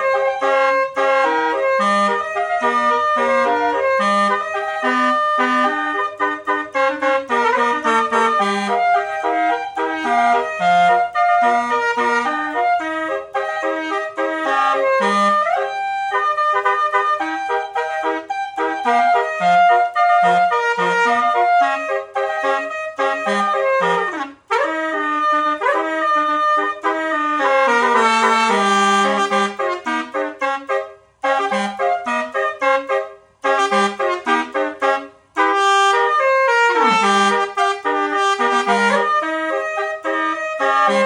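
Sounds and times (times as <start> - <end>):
bus horn playing melody: 0.0 - 41.0.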